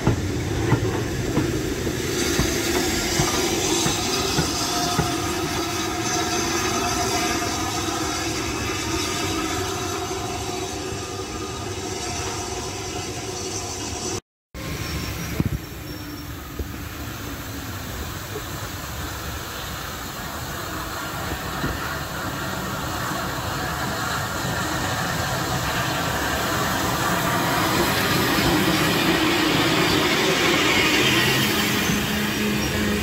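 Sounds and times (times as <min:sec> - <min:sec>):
steam locomotive approaching: 0:00.0 - 0:33.0.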